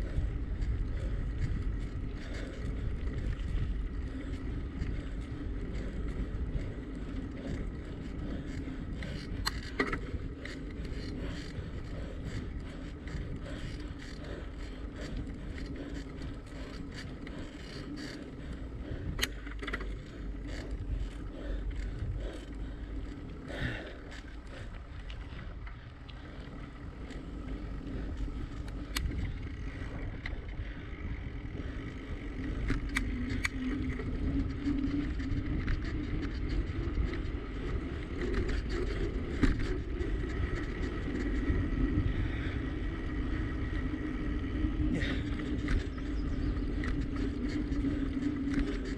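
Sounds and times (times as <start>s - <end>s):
bicycle tyre noise: 0.0s - 48.9s
bike clicks and rattles: 0.0s - 48.9s
wind rumble on microphone: 0.0s - 48.9s.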